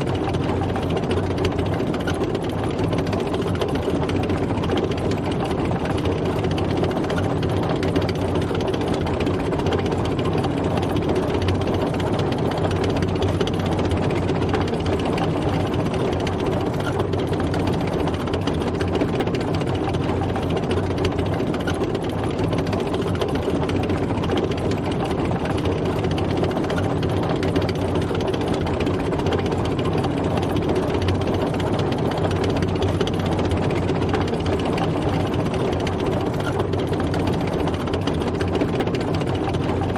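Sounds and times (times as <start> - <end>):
tank engine running: 0.0 - 39.9.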